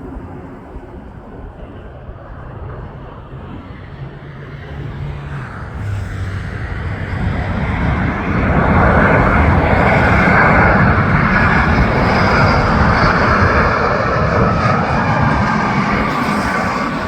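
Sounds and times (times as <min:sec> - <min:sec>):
jet airliner engine rush: 0:00.0 - 0:17.0.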